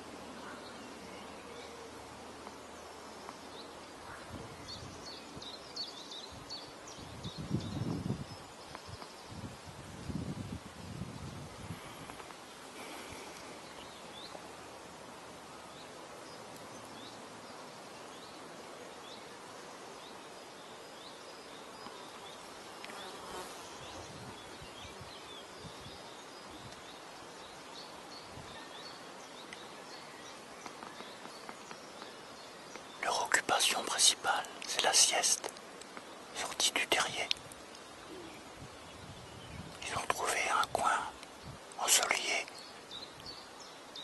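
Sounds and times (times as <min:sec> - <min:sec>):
flies buzzing: 0:00.0 - 0:44.0.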